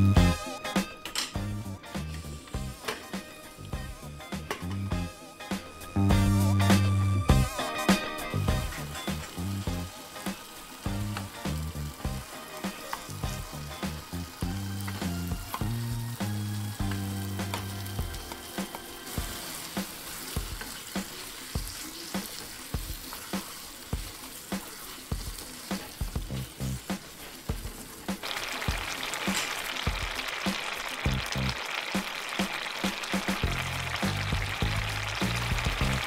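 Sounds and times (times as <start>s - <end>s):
curry sizzling in a pan: 0.0s - 36.0s.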